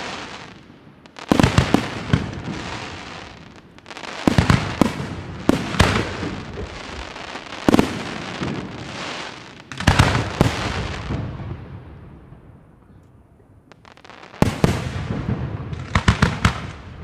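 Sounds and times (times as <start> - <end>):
hiss of glittering fireworks: 0.0 - 12.5, 13.7 - 17.0.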